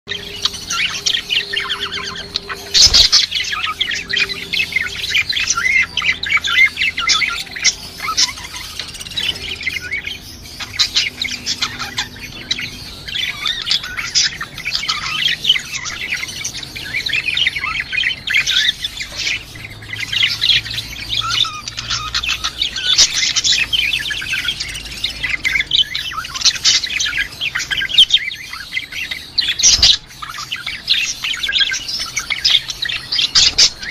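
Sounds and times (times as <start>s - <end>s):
lovebirds chirping and chattering: 0.1s - 33.9s.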